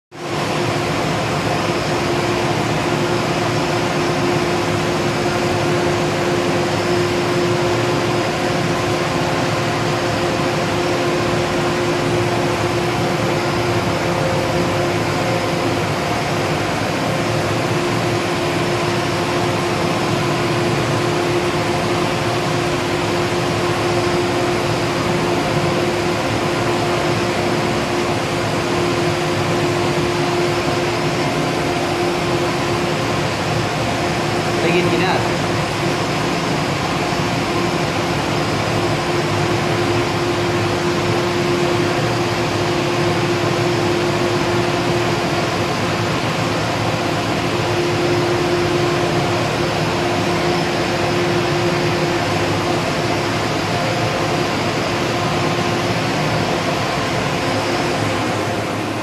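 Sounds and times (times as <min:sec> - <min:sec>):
fan running steadily: 0:00.1 - 0:59.0.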